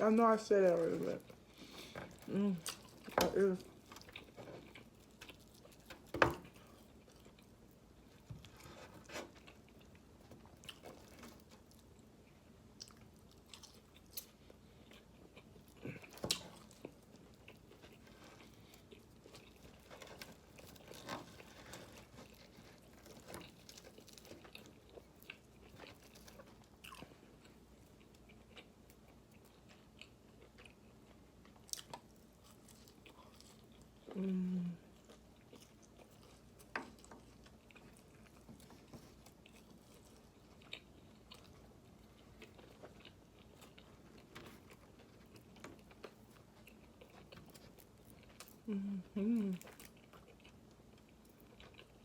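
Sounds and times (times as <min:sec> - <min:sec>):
crunchy chewing: 0:01.2 - 0:52.0.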